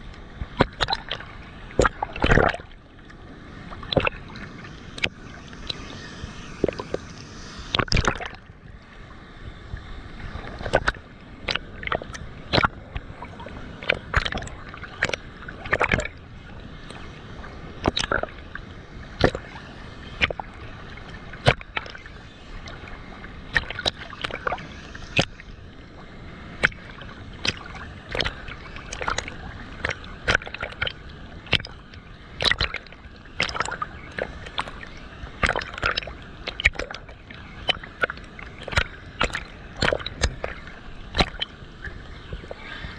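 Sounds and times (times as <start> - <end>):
rush of water: 0.0 - 42.9
water splashing and gurgling: 0.0 - 42.9.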